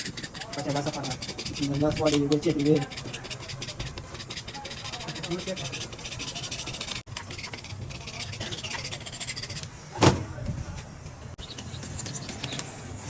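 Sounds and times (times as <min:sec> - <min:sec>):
metal scraping and rubbing: 0:00.0 - 0:13.0.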